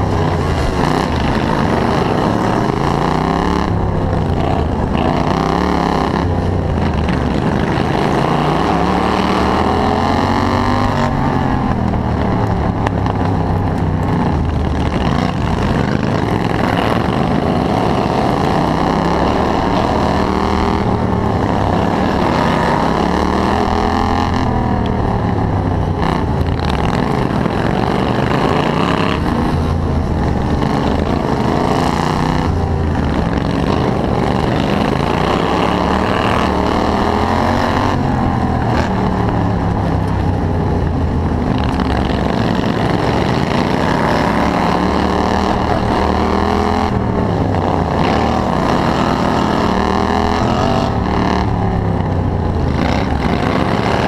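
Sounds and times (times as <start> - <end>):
lawn mower engine running hard: 0.0 - 54.0.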